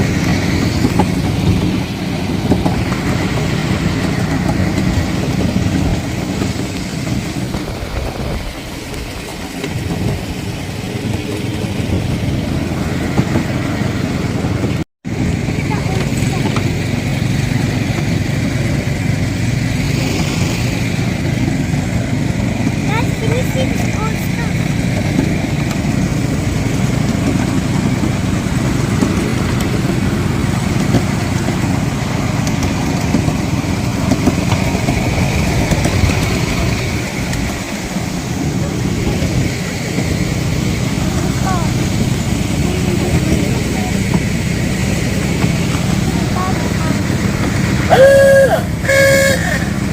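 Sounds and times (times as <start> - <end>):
miniature train rumbling: 0.0 - 49.9.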